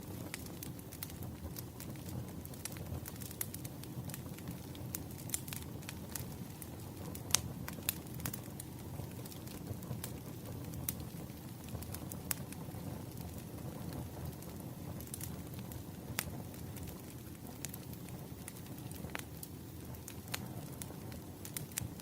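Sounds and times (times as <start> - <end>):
firewood crackling and popping: 0.0 - 22.0
low rumble of flame: 0.0 - 22.0.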